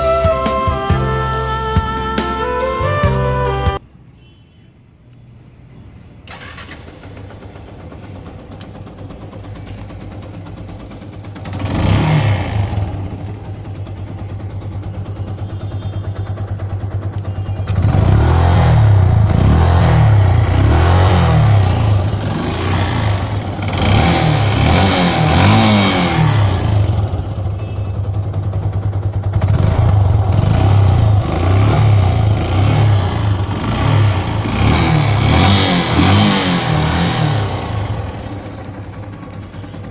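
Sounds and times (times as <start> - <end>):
motorcycle engine running: 6.3 - 39.9
motorcycle throttle revving: 6.3 - 39.9.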